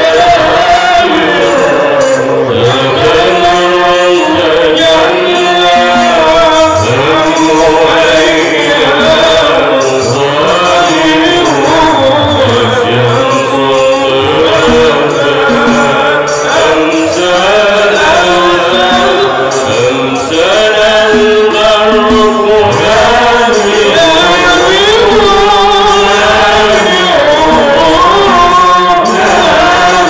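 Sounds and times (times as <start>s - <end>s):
men chanting into microphones: 0.0s - 30.0s.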